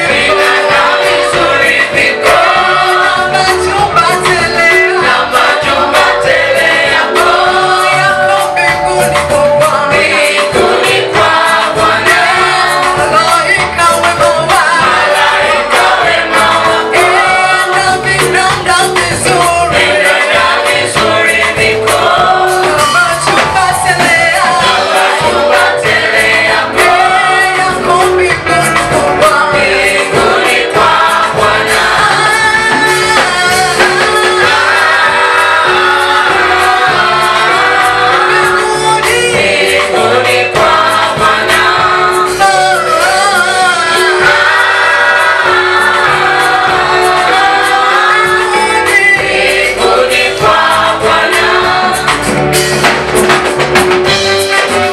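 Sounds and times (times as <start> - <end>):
choir singing gospel: 0.0 - 54.9
musical accompaniment: 0.0 - 54.9.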